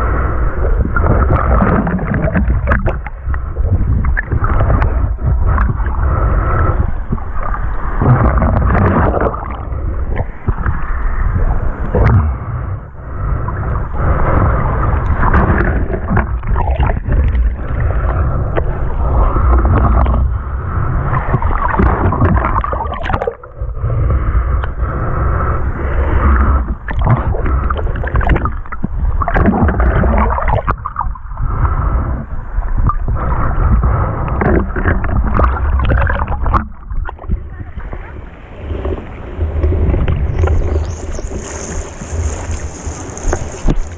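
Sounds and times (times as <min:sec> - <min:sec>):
low rumble: 0:00.0 - 0:43.9
seawater rushing and gurgling: 0:00.0 - 0:43.9.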